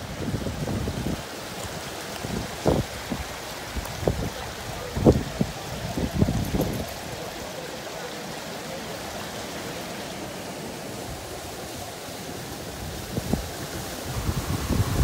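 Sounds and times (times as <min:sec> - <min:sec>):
water rushing down: 0:00.0 - 0:15.0.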